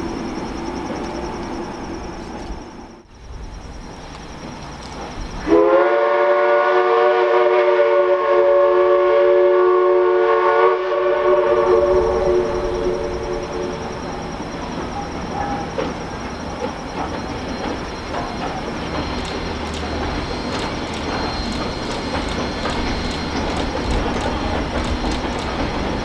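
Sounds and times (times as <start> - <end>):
steam locomotive chime whistle: 4.3 - 26.0.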